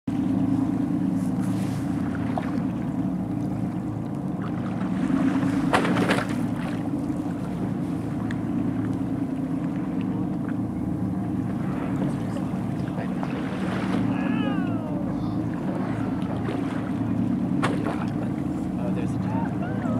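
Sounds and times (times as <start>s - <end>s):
boat engine humming: 0.0s - 19.9s
wind: 0.0s - 19.9s
water against hull: 0.1s - 19.9s.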